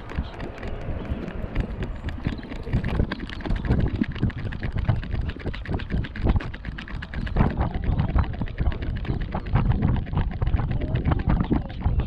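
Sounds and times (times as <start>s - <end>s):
footsteps on paved path: 0.0s - 12.0s
wind rumble on microphone: 0.0s - 12.0s.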